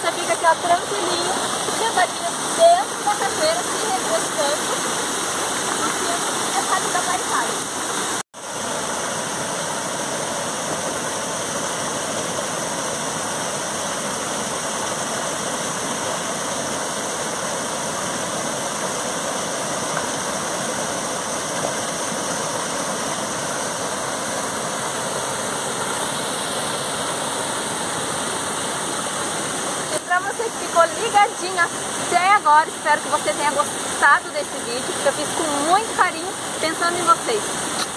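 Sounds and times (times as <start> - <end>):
small waterfall rushing: 0.0 - 37.9.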